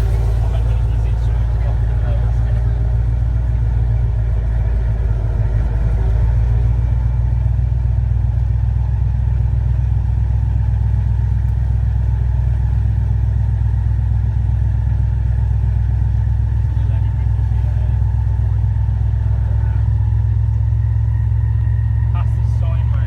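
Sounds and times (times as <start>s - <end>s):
airboat engine and propeller droning: 0.0s - 23.0s.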